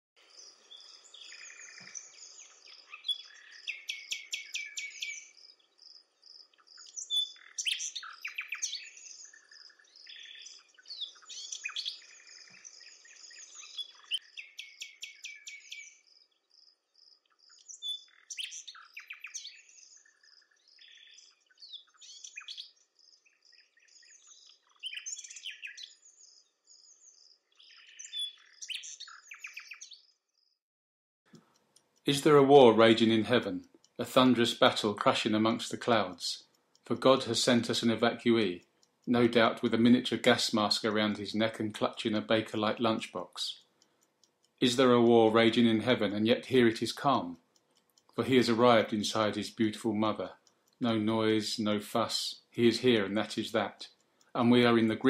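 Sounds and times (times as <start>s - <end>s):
songbirds singing and trilling: 0.2s - 30.6s, 31.3s - 55.0s.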